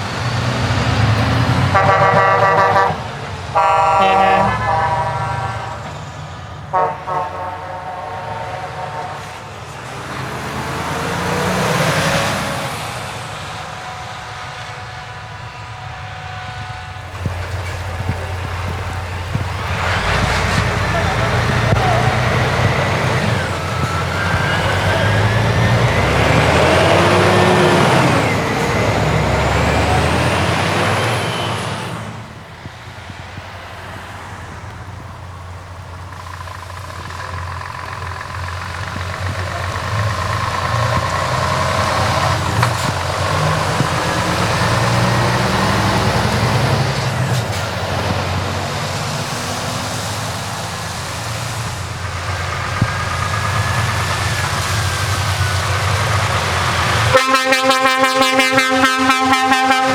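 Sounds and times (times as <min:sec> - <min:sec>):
truck diesel engine passing: 0:00.0 - 0:59.9.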